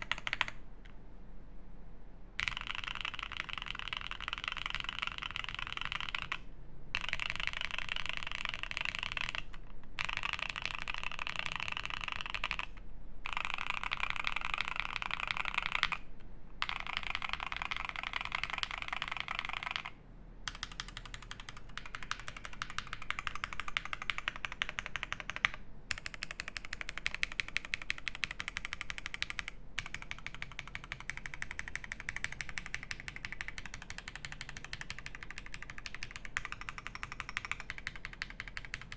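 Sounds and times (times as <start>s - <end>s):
fast typing on mechanical keyboard: 0.0s - 0.6s, 2.4s - 16.0s, 16.6s - 38.9s.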